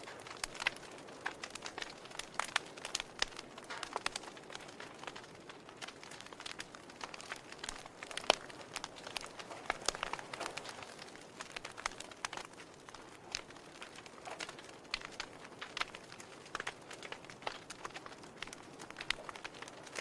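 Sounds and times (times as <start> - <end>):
soft fire hiss: 0.0 - 20.0
wood fire snapping and popping: 0.0 - 20.0.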